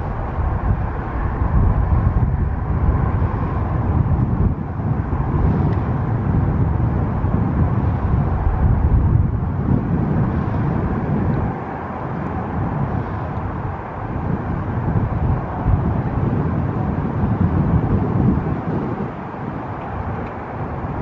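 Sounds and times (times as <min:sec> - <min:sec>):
distant jet engines rumbling: 0:00.0 - 0:21.0.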